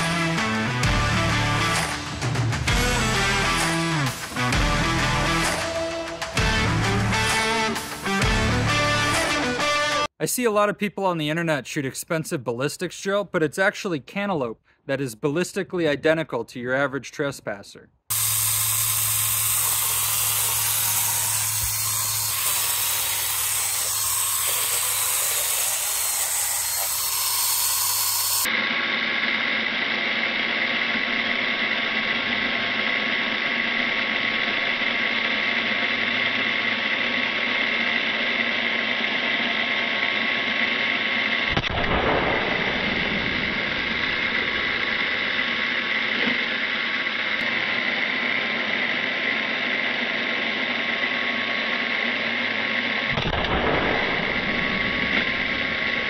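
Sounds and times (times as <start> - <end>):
electric chainsaw running: 0.0 - 10.1, 18.1 - 56.0.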